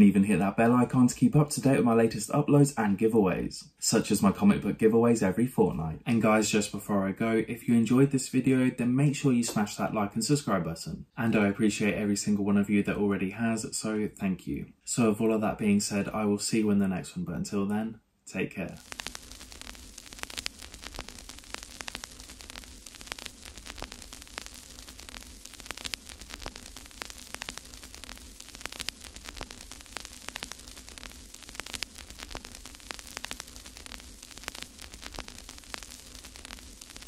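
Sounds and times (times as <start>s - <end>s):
crackling static: 0.0s - 37.0s.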